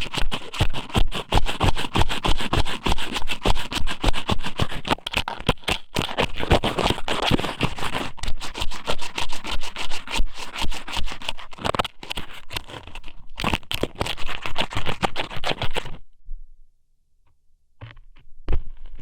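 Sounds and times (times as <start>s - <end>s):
dried squid scraping and crackling: 0.0s - 16.0s.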